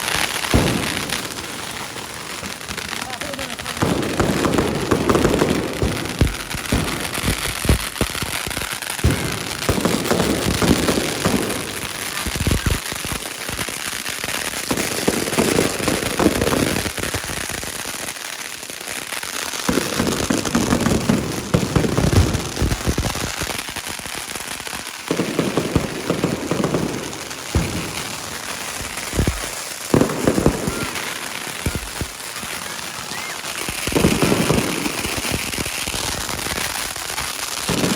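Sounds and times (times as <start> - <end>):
firecrackers crackling bangs: 0.0 - 37.9.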